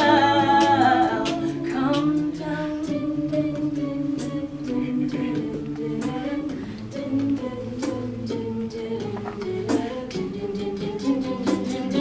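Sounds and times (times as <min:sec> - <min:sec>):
vocal percussion beat: 0:00.0 - 0:12.0
voices singing harmonies: 0:00.0 - 0:12.0.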